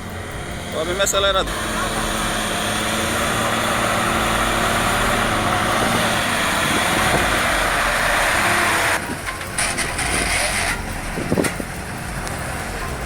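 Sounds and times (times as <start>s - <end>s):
diesel engine droning: 0.0s - 13.0s
quieter engine running: 0.0s - 13.0s.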